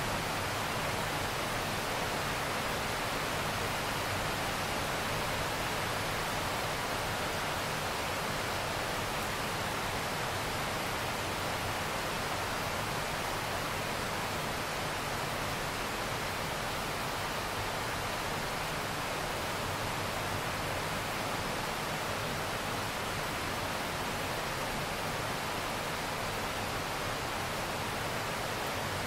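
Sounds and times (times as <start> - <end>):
steady rain: 0.0 - 29.0.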